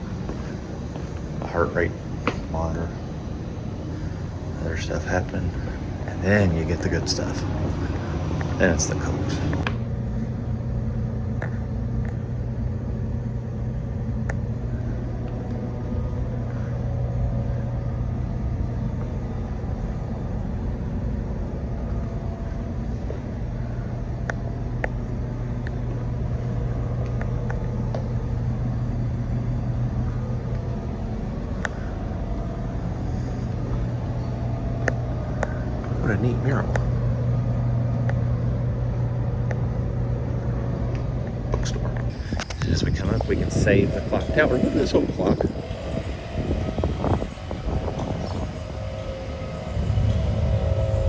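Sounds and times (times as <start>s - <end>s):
low hum and rumble: 0.0s - 51.0s.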